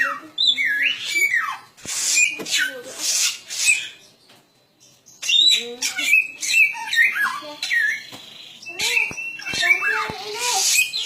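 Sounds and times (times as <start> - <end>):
bird singing whistled notes: 0.4 - 11.0.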